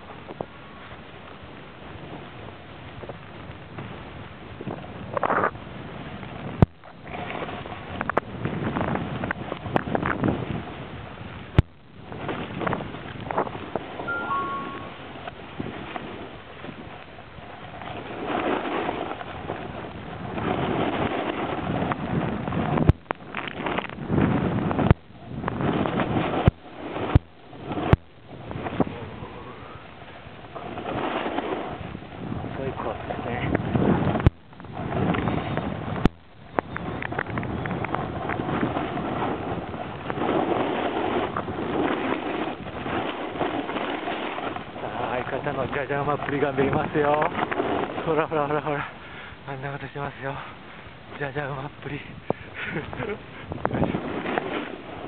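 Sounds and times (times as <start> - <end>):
snowboard sliding over snow: 0.0 - 55.0
wind on microphone: 0.0 - 55.0.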